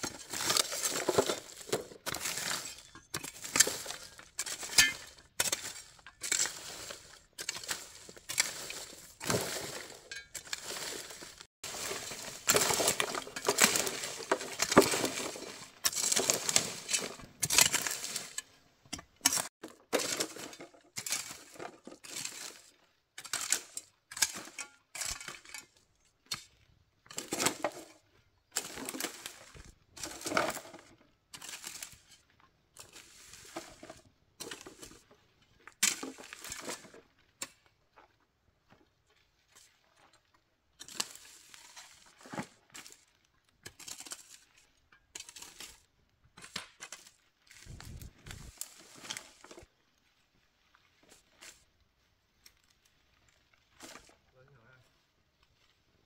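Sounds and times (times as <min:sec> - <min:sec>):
hoe scraping through dry leaves: 0:00.0 - 0:18.6, 0:19.2 - 0:25.8, 0:26.4 - 0:37.5, 0:40.7 - 0:45.9, 0:46.5 - 0:56.0.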